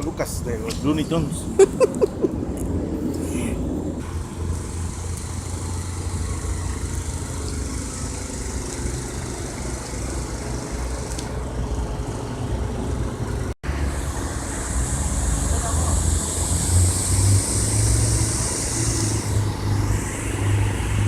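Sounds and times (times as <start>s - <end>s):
low motor hum with hiss: 4.0s - 21.0s.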